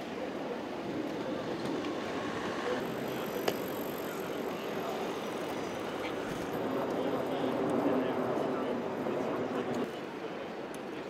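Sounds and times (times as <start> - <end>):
distant traffic hum: 0.0 - 10.9.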